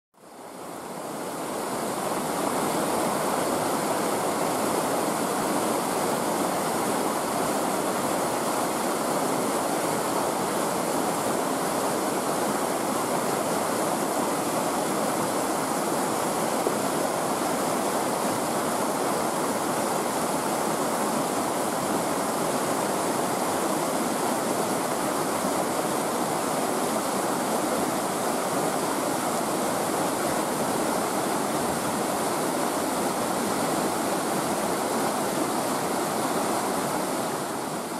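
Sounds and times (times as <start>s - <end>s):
white water rushing: 0.2s - 37.9s.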